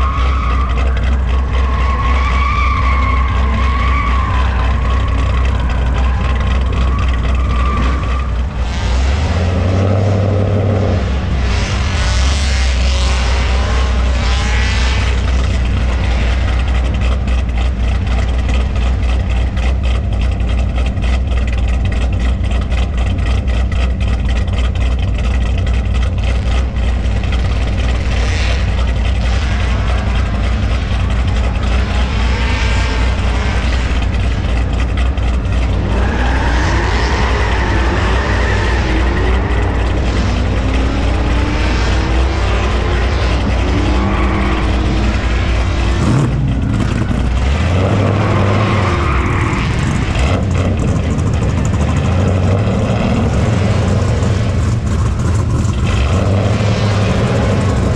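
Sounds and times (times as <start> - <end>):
car engine revving: 0.0 - 57.9
car engines rumbling: 0.0 - 57.9.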